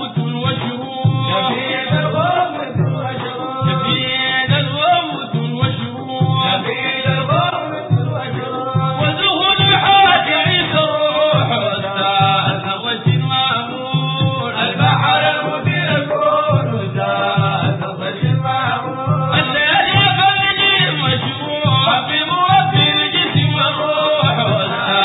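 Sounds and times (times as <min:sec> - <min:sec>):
repeating drum beat: 0:00.0 - 0:25.0
voices singing in chanting style: 0:00.0 - 0:25.0.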